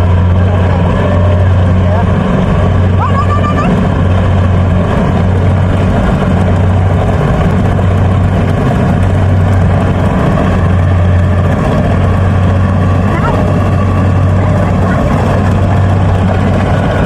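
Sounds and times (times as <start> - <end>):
harvester engine droning: 0.0 - 17.0.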